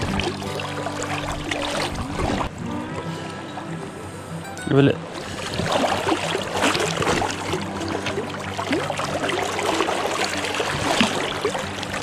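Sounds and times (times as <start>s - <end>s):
river water rushing and splashing: 0.0s - 12.0s.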